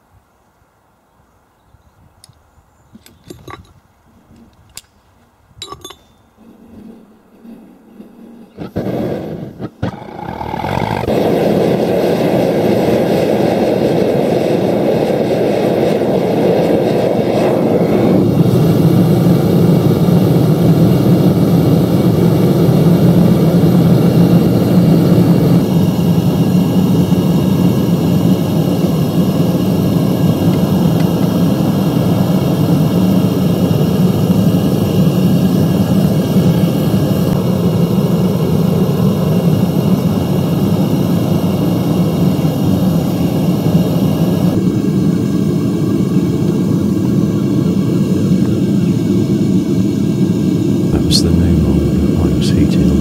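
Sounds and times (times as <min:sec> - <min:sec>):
gas burner roaring: 0:06.4 - 0:53.0.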